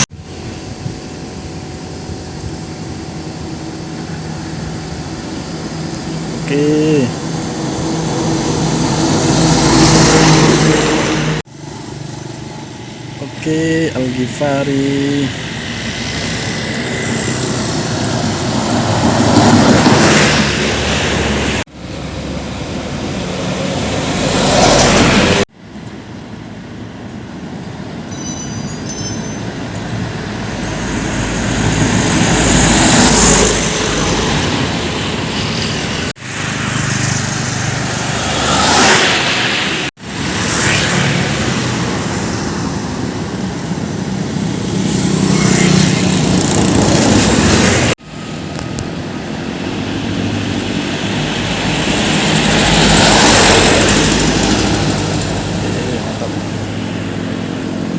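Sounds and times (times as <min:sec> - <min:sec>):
heavy trucks driving past: 0:00.0 - 0:57.9.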